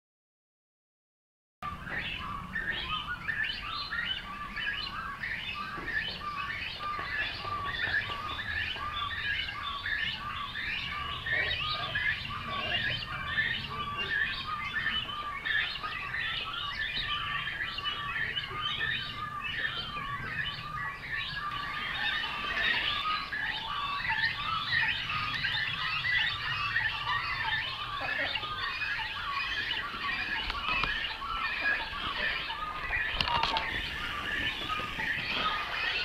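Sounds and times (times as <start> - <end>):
bird chicks begging calls: 1.7 - 36.0.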